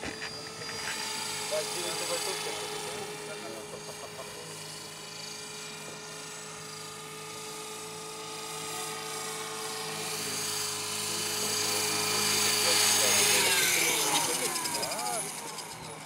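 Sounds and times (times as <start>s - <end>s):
model helicopter motor whine: 0.0s - 16.0s.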